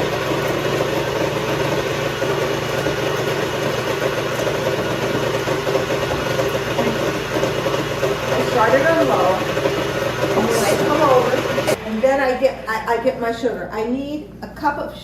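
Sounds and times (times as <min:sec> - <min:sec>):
electric mixer beating eggs: 0:00.0 - 0:12.5.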